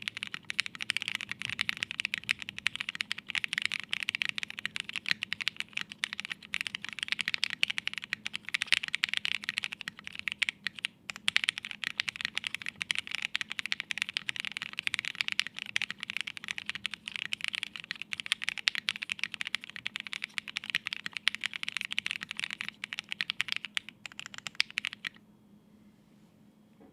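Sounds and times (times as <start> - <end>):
fast typing on mechanical keyboard: 0.0 - 25.2.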